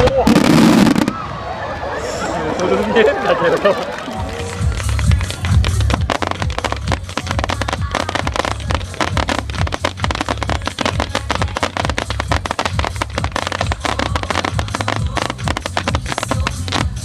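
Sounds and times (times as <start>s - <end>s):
fireworks bangs and crackles: 0.0s - 1.3s, 4.5s - 17.0s.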